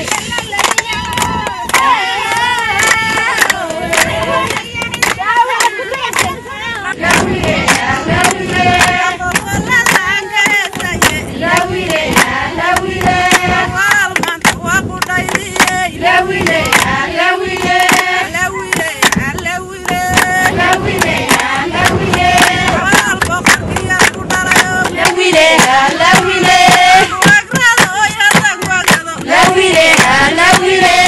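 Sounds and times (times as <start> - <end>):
sharp hand claps: 0.0 - 6.4, 7.0 - 31.0
group of people singing: 0.0 - 31.0.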